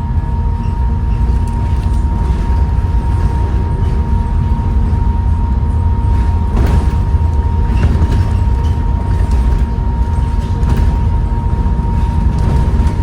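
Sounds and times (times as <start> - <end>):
bus engine rumble: 0.0 - 13.0
gearbox and turbo whine: 0.0 - 13.0.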